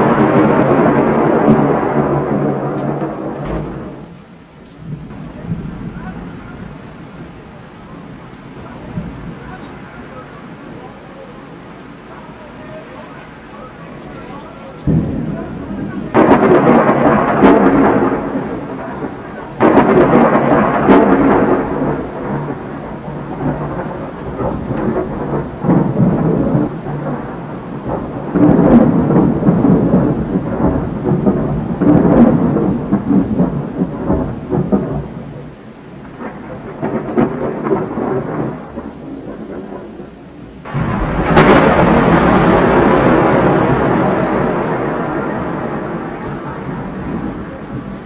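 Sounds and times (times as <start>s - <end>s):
rain falling: 0.0s - 48.0s
thunder clap and rolling rumble: 0.0s - 48.0s.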